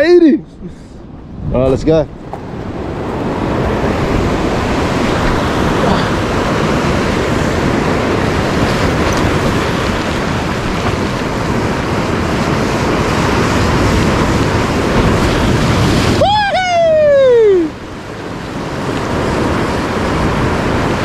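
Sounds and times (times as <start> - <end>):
wind buffeting microphone: 0.0 - 21.0
ocean surf breaking on rocks: 1.0 - 21.0.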